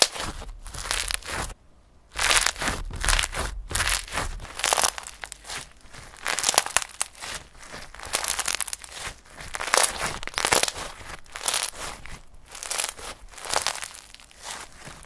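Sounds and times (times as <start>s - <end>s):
slime crackling: 0.0s - 15.0s.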